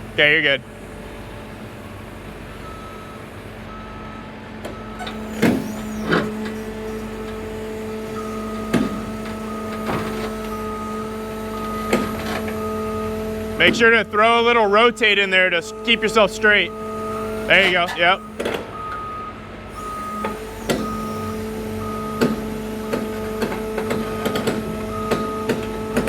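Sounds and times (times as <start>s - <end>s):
excavator diesel engine running: 0.0s - 26.0s
travel alarm beeping: 2.5s - 23.1s, 23.8s - 26.0s.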